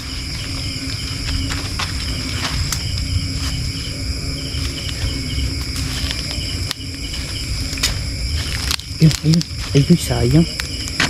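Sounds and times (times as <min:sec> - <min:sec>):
crickets trilling: 0:00.0 - 0:11.0
low rumble: 0:00.0 - 0:11.0.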